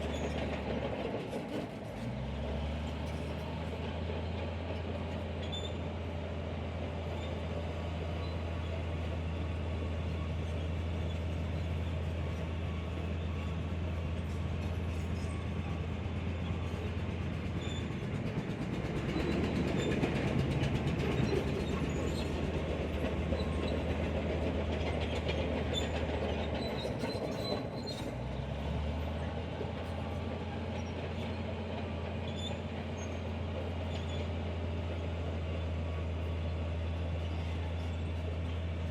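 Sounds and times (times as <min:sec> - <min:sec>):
heavy diesel machine rumbling: 0:00.0 - 0:38.9.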